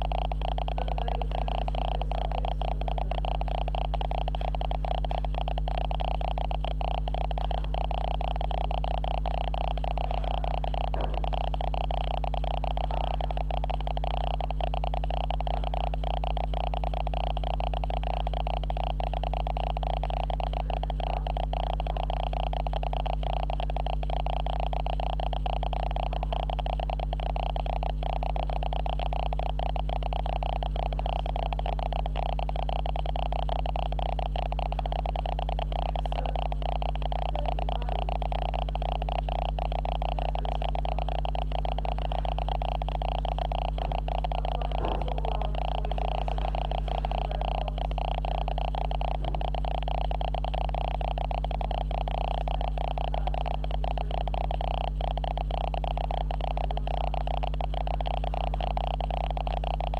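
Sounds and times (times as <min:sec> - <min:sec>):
camera electrical hum and buzz: 0:00.0 - 0:59.9.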